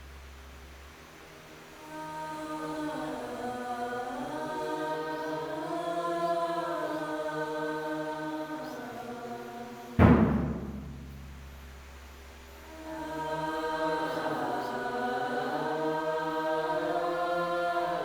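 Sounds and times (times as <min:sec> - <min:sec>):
voices chanting a drone: 0:01.8 - 0:10.8, 0:12.5 - 0:18.0.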